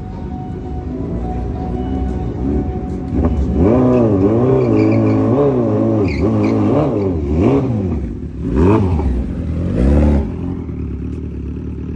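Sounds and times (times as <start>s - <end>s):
motorcycle engine revving and idling: 0.0s - 11.9s.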